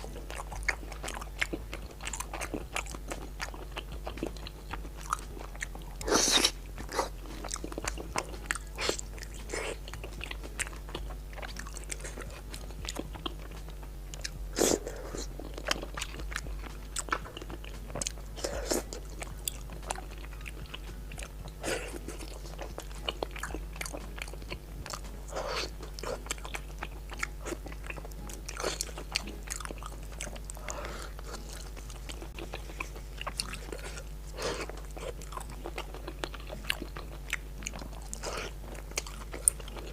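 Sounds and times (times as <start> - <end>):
person chewing and biting: 0.0 - 39.9
steady low hum: 0.0 - 39.9.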